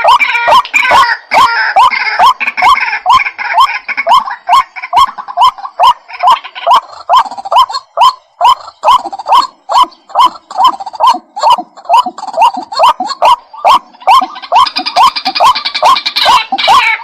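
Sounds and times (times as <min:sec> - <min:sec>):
bird calling rising notes: 0:00.0 - 0:17.0.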